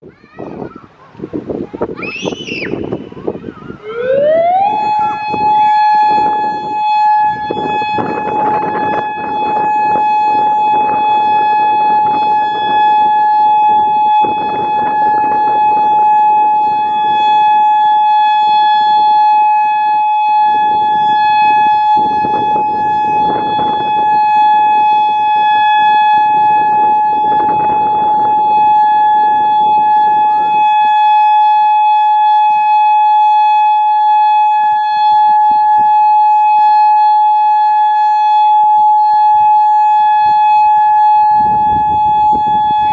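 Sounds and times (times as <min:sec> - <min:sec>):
warning siren steady tone: 0:02.2 - 0:42.9.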